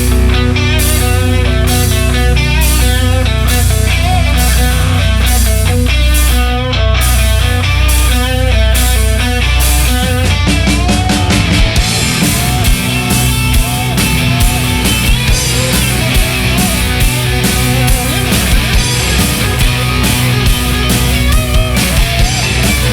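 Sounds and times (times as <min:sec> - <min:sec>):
electric guitar lead: 0:00.0 - 0:22.9
hard rock music: 0:00.0 - 0:22.9.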